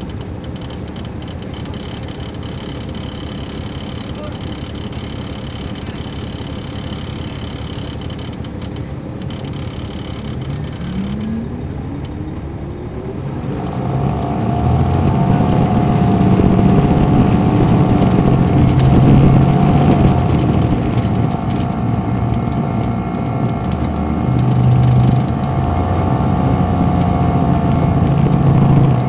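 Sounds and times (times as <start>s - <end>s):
diesel bus engine revving: 0.0s - 29.0s.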